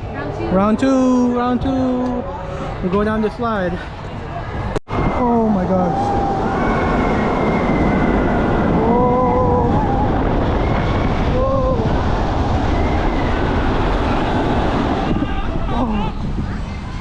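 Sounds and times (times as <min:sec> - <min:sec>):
wind rushing on microphone: 0:00.0 - 0:17.0.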